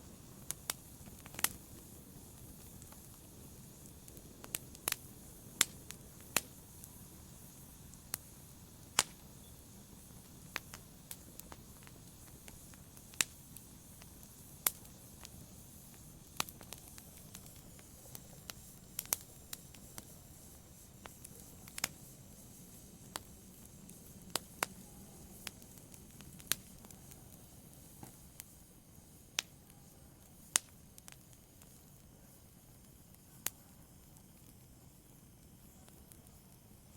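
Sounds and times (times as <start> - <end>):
wood fire popping and snapping: 0.0 - 32.2, 32.8 - 36.9
soft low hiss of fire: 0.0 - 36.9.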